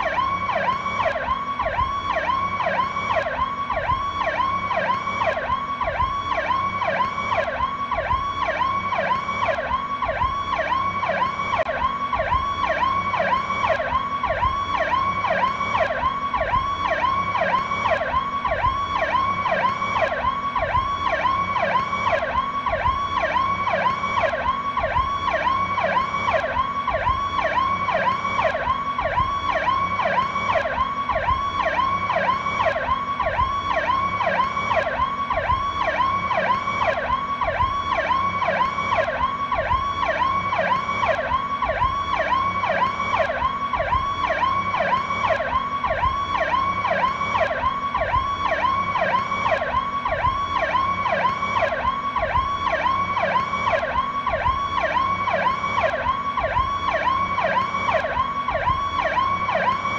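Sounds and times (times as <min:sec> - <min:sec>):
police siren wailing: 0:00.0 - 0:59.9.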